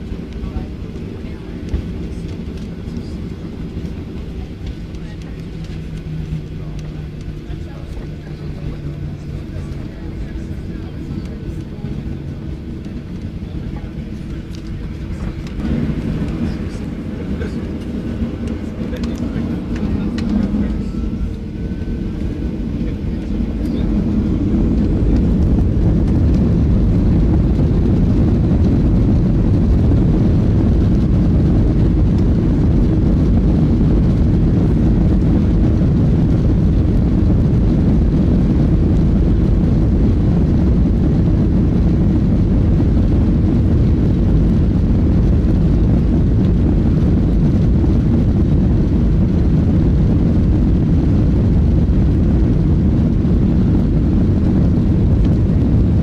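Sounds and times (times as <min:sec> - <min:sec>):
airliner engines rumbling: 0:00.0 - 0:56.0.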